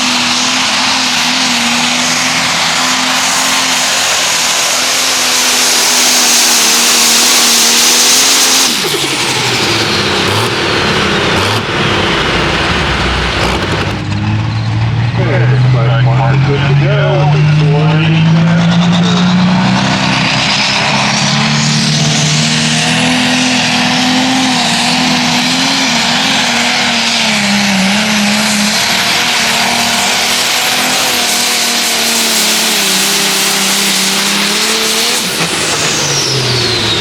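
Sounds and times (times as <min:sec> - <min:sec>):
tractor engine at full throttle: 0:00.0 - 0:37.0
turbo whine: 0:00.0 - 0:37.0.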